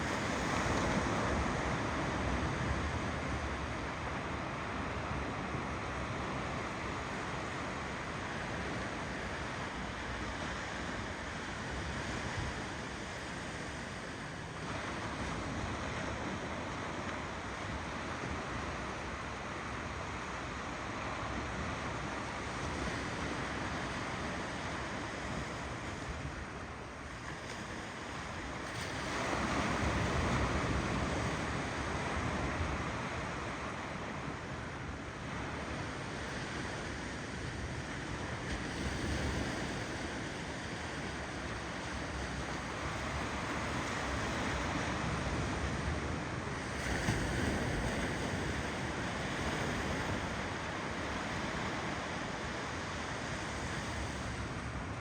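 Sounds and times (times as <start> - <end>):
ocean waves: 0.0 - 55.0.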